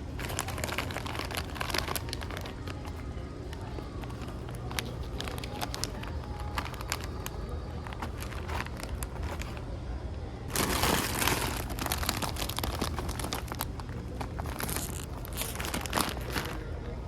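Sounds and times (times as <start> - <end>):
crackles and clicks: 0.0 - 9.7, 10.5 - 16.8
packaging crinkling and rustling: 0.0 - 9.7, 10.5 - 17.0.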